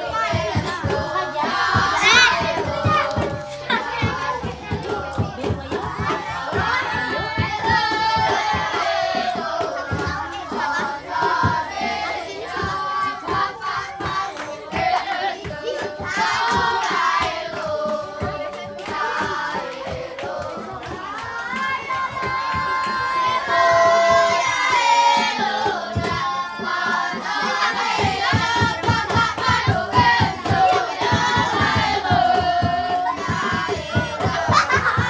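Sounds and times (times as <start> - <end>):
group singing a children's tune: 0.0 - 35.0
rhythmic hand clapping: 0.0 - 35.0.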